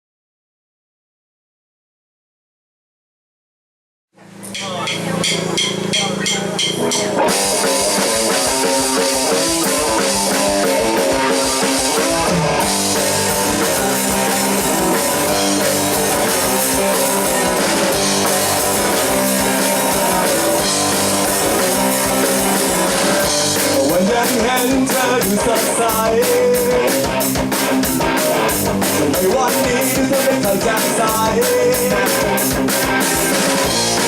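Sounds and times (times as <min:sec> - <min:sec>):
bass guitar: 0:04.2 - 0:34.0
drum kit: 0:04.2 - 0:34.0
lead guitar: 0:04.2 - 0:34.0.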